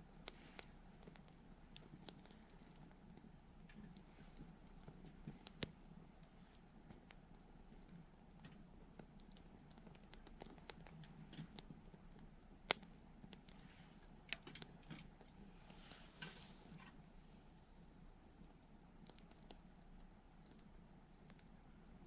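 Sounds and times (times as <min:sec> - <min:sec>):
soft hiss: 0:00.0 - 0:22.0
wood fire crackling: 0:00.0 - 0:22.0.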